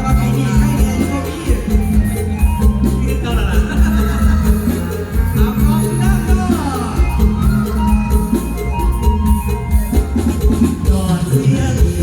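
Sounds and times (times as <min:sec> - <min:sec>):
live band music with heavy bass: 0:00.0 - 0:12.0.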